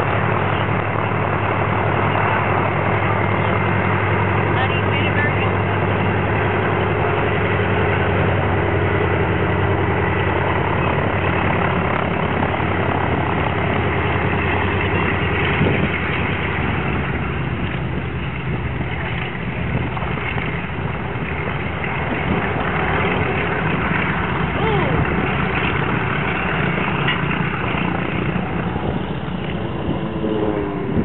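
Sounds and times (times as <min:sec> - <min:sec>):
aircraft engines droning: 0:00.0 - 0:31.0.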